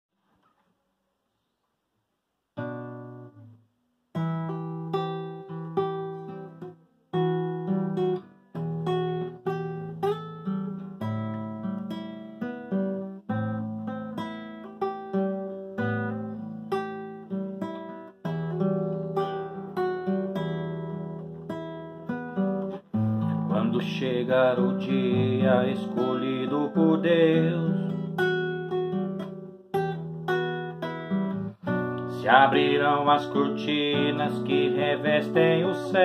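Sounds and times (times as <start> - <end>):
acoustic guitar strummed chords: 2.6 - 36.0.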